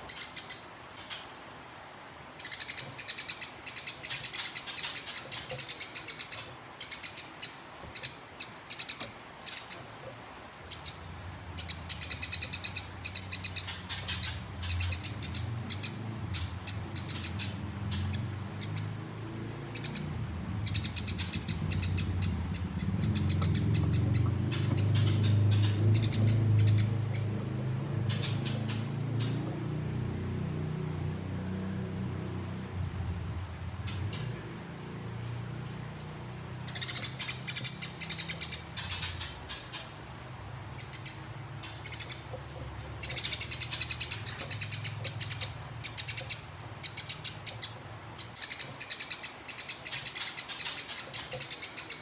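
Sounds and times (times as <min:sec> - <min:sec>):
songbird chirping trills: 0:02.4 - 0:52.0.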